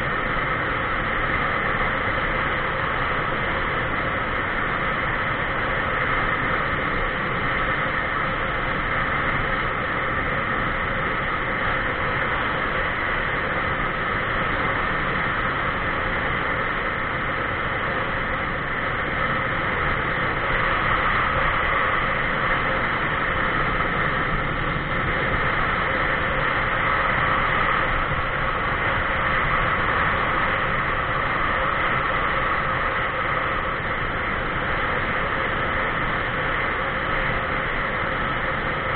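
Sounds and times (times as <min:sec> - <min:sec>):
road noise: 0:00.0 - 0:38.9
rushing wind: 0:00.0 - 0:38.9.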